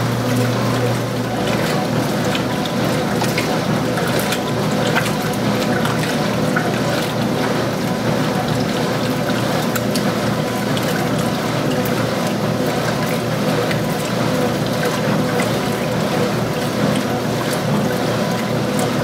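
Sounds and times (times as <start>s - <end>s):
mechanical hum: 0.0s - 19.0s
water sloshing in washer: 0.0s - 19.0s.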